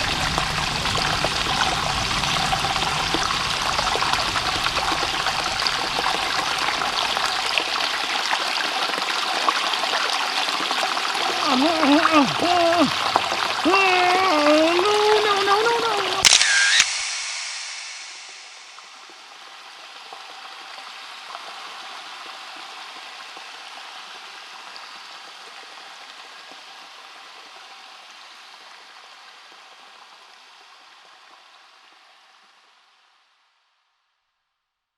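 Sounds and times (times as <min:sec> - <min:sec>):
small waterfall hissing: 0:00.0 - 0:33.6.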